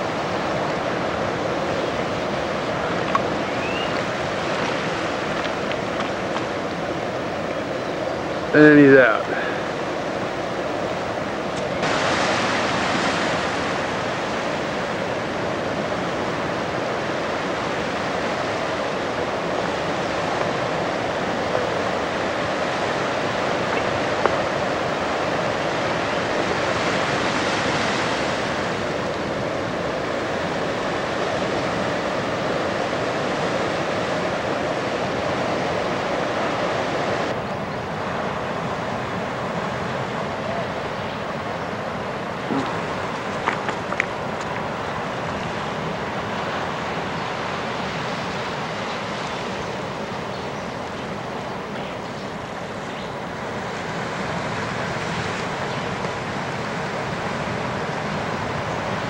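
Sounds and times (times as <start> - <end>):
ocean surf breaking: 0.0 - 59.0.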